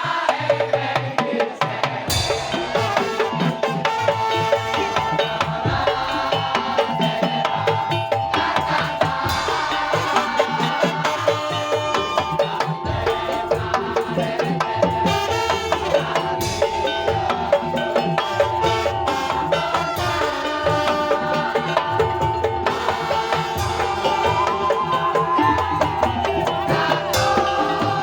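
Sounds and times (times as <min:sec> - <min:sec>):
percussion ensemble fast rhythm: 0:00.0 - 0:28.0
steady held tone: 0:02.1 - 0:28.0.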